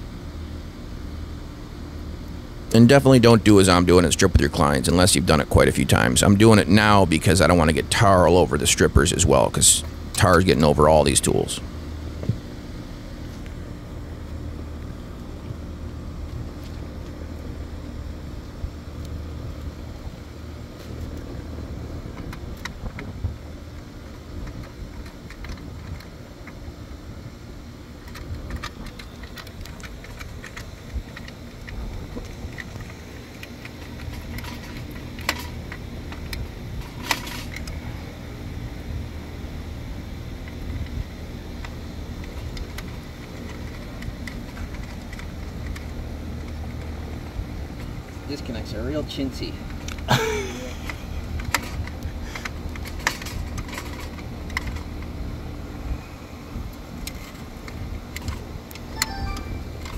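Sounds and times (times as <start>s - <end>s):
air conditioning hum: 0.0s - 59.9s.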